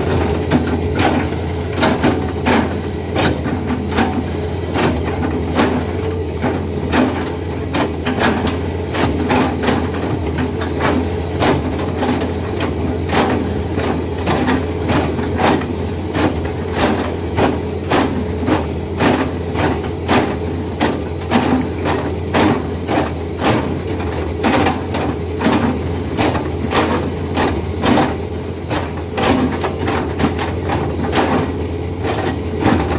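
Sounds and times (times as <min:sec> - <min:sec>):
excavator diesel engine under load: 0:00.0 - 0:32.9.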